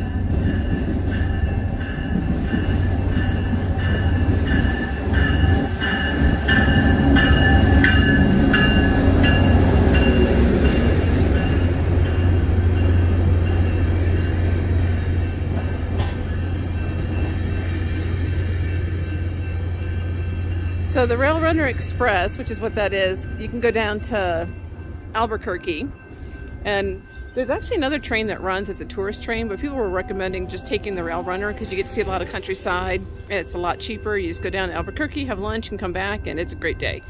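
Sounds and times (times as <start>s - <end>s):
crossing bell ringing: 0.0s - 37.0s
train rumbling past: 0.0s - 37.0s.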